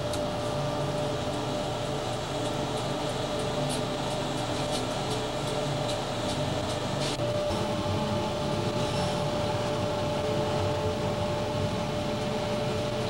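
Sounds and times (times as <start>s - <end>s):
electrical whine: 0.0s - 13.0s.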